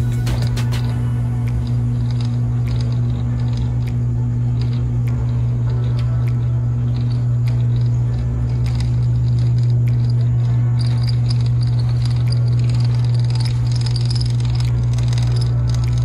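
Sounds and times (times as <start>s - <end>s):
light irregular ticks: 0.0s - 16.0s
propeller airliner drone in cabin: 0.0s - 16.0s.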